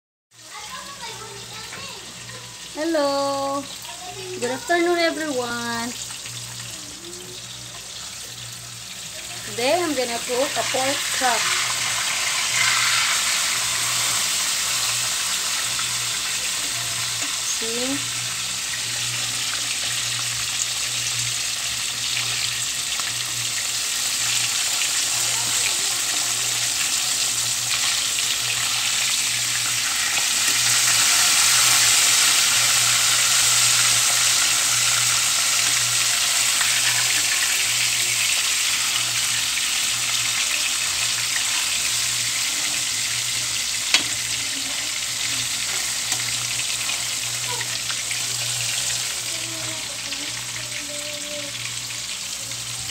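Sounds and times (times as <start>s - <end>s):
meat sizzling in a pan: 0.3s - 52.9s.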